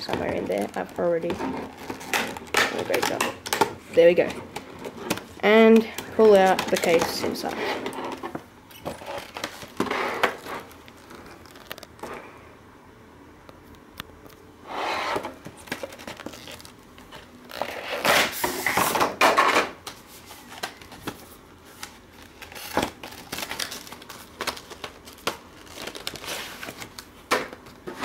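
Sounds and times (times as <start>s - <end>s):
plastic packaging rustling: 0.0s - 12.1s, 15.1s - 19.1s, 19.9s - 28.0s.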